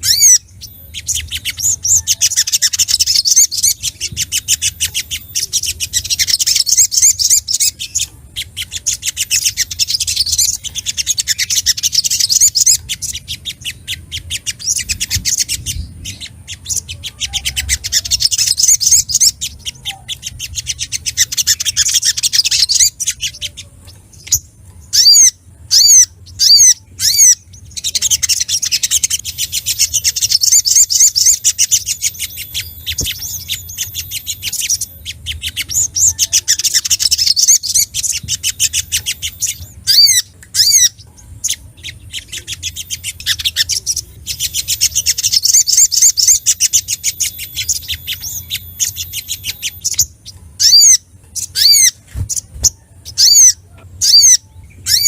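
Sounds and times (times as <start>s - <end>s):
bird chattering trills: 0.0s - 55.0s
loud sharp bird calls: 0.0s - 55.0s.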